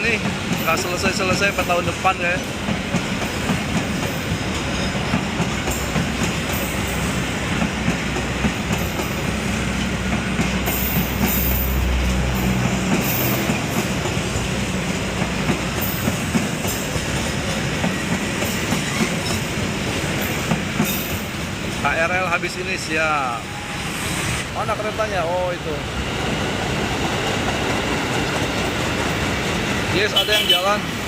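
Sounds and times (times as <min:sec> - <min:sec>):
clickety-clack over rail joints: 0:00.0 - 0:23.2, 0:25.7 - 0:31.0
train wheels rumbling on track: 0:00.0 - 0:31.0.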